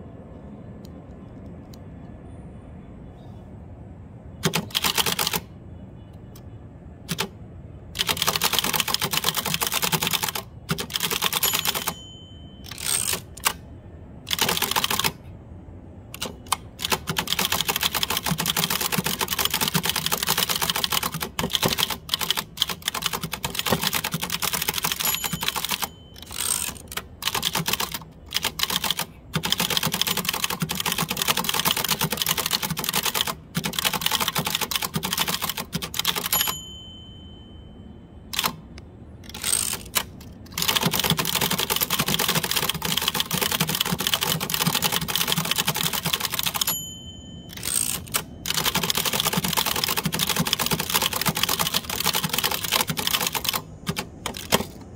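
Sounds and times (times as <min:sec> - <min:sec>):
manual typewriter keystrokes: 0:04.4 - 0:05.5, 0:07.0 - 0:13.6, 0:14.2 - 0:15.2, 0:16.1 - 0:36.7, 0:38.3 - 0:54.9.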